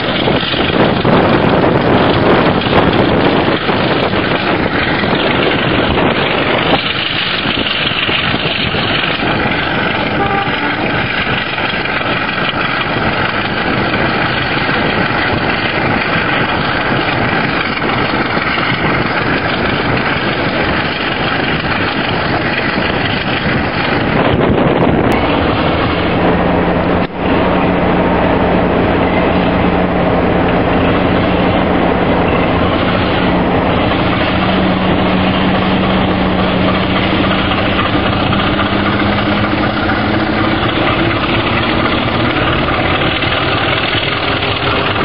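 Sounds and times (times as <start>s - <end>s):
diesel locomotive engine working hard: 0.0s - 45.0s
wind on microphone: 0.0s - 45.0s.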